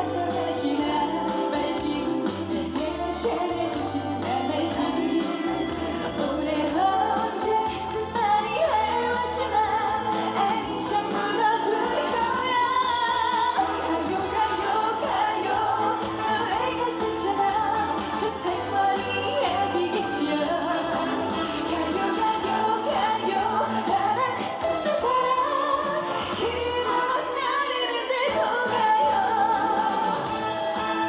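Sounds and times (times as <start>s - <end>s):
live band playing: 0.0s - 27.2s, 28.4s - 31.0s
woman singing: 0.0s - 31.0s.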